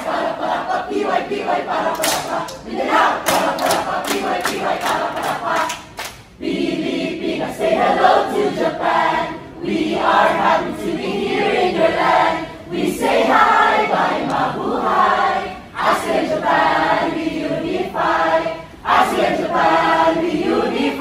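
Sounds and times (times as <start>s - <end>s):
group singing in unison: 0.0s - 21.0s.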